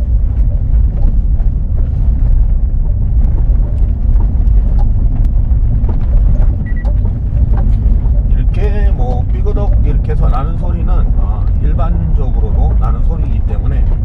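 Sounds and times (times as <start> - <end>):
suspension knocks and creaks: 0.0 - 14.0
tyres rumbling on dirt road: 0.0 - 14.0.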